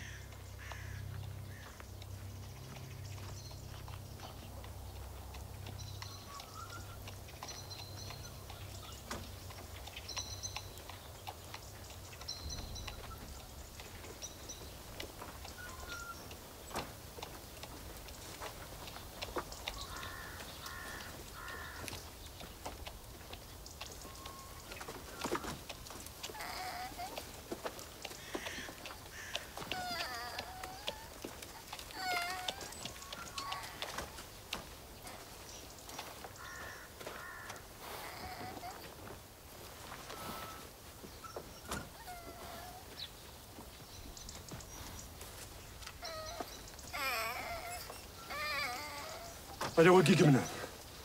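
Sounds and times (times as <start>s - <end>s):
footsteps on the ground: 0.0s - 51.0s
hooves on the ground: 0.0s - 51.0s
small birds chirping: 0.0s - 51.0s
animal calls: 2.5s - 51.0s.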